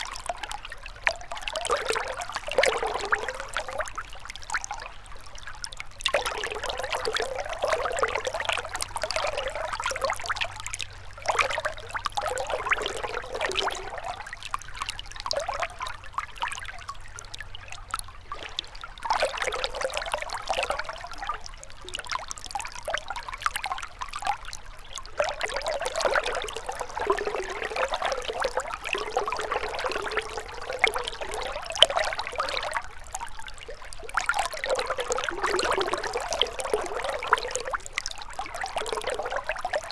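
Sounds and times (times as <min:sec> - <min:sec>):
river water flowing and splashing: 0:00.0 - 0:39.9.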